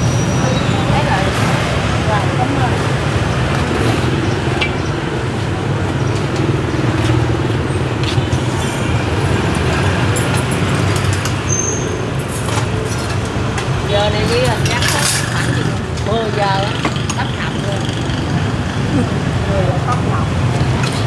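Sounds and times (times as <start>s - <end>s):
street traffic drone: 0.0s - 21.0s.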